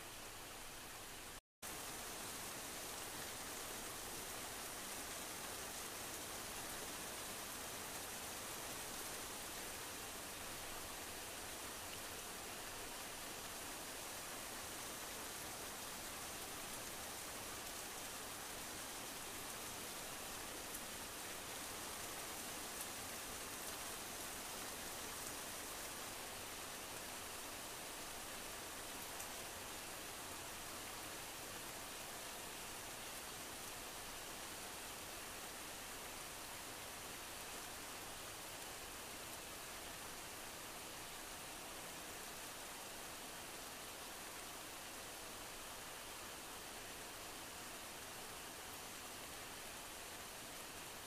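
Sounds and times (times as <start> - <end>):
faint steady hiss: 0.0 - 51.0.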